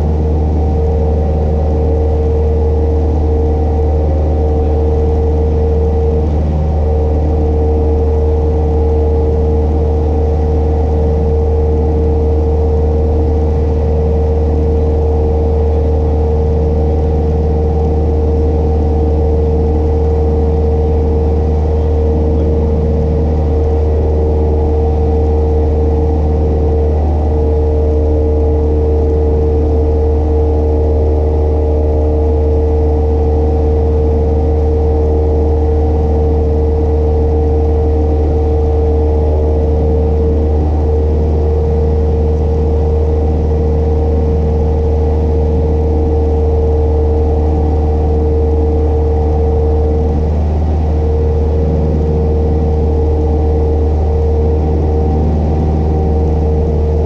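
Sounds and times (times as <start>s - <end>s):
airplane engine drone: 0.0s - 57.0s.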